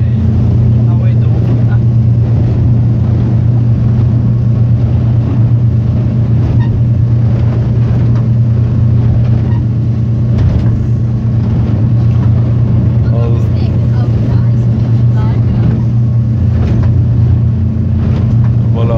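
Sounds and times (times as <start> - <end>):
motorboat engine drone: 0.0 - 18.9.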